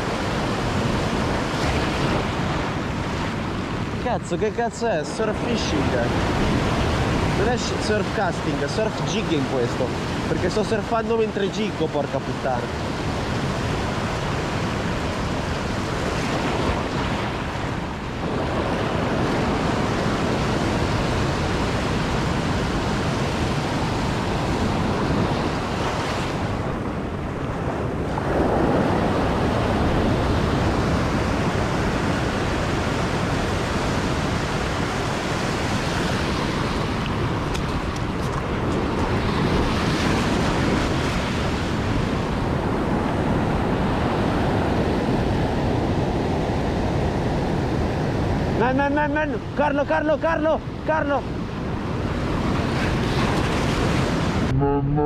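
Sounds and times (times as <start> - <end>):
surf breaking on rocky shore: 0.0 - 54.5.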